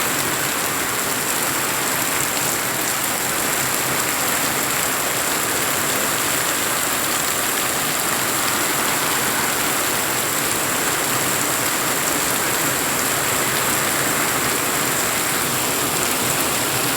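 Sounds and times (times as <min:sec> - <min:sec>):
steady rain falling: 0:00.0 - 0:16.9.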